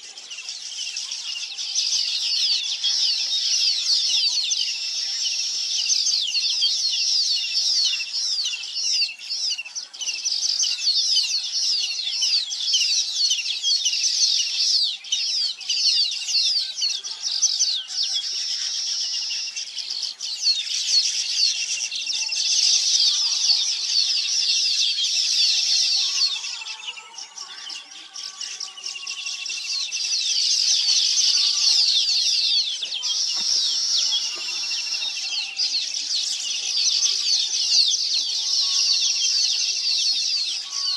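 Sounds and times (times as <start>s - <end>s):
flock of small birds chirping: 0.0s - 40.9s.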